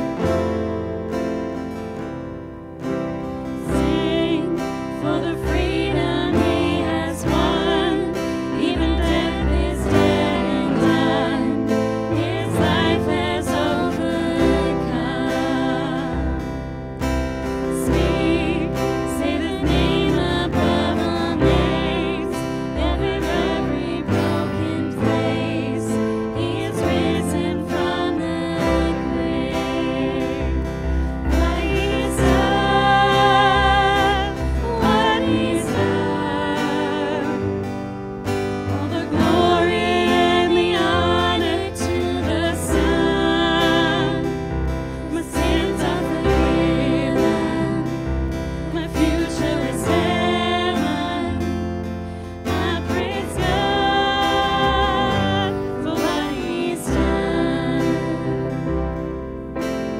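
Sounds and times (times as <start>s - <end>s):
congregation singing: 0.0s - 59.9s
piano: 0.0s - 59.9s
strummed acoustic guitars: 0.0s - 59.9s.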